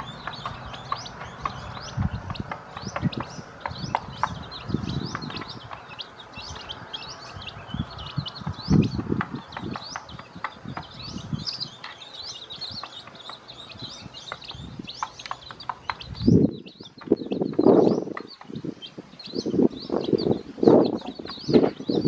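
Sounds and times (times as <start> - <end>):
beaks pecking on a plate: 0.0 - 19.5
chicks peeping: 0.0 - 22.0.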